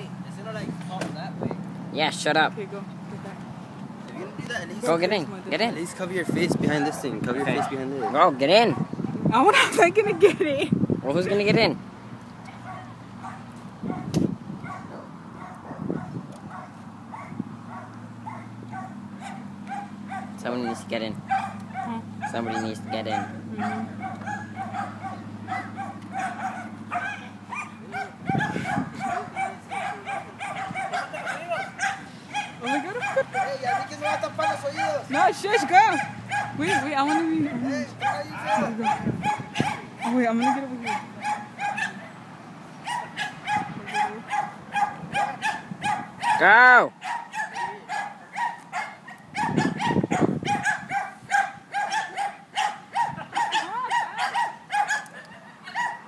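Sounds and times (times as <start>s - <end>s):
dog barking and yipping: 6.8s - 9.8s, 12.4s - 56.0s.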